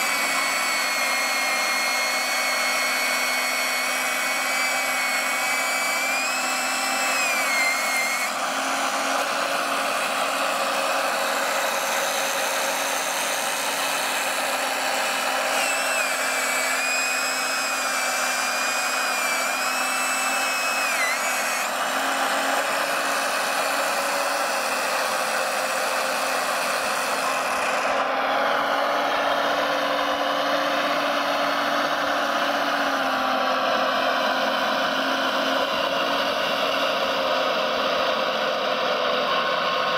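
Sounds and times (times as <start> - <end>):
model excavator motors whining: 0.0 - 39.9.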